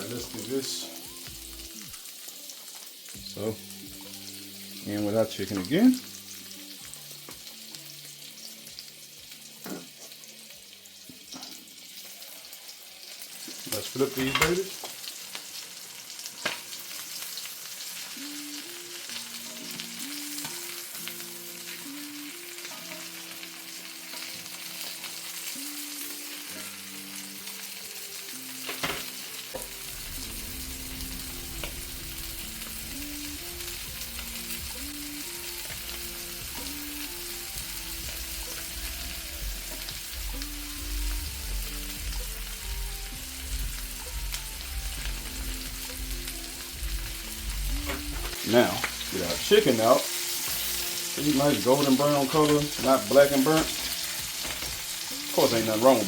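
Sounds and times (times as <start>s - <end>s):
chicken frying in oil: 0.0s - 56.0s.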